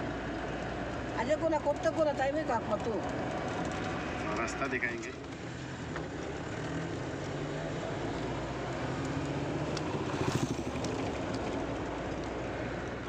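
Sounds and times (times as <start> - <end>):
road noise rushing: 0.0 - 13.0
vehicle engine hum: 0.0 - 13.0.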